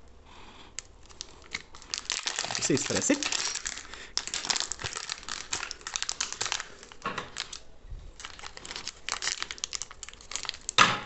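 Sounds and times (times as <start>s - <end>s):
plastic bag crinkling: 0.8s - 10.8s.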